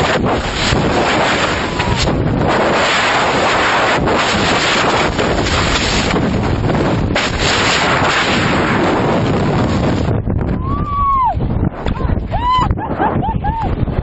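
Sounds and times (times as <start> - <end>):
wind rushing against microphone: 0.0 - 14.0.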